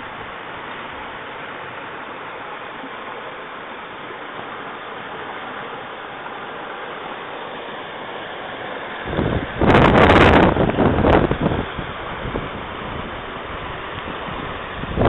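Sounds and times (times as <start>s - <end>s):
floodwater rushing down road: 0.0s - 15.0s.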